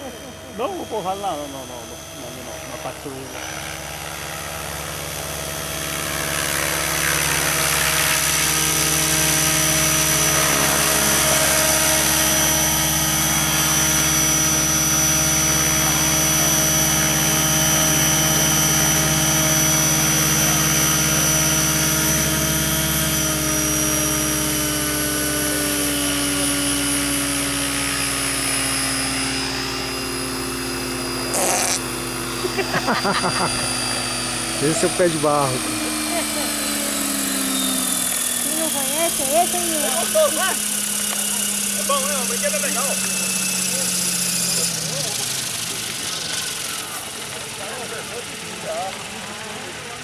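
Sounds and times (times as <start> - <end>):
model helicopter motor whine: 0.0 - 50.0.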